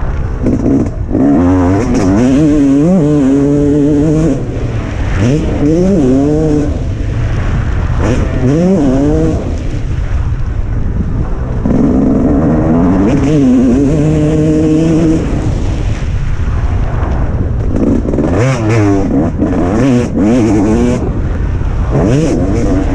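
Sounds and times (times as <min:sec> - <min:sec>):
motorbike engine revving hard: 0:00.0 - 0:09.9, 0:11.6 - 0:15.9, 0:17.7 - 0:22.9.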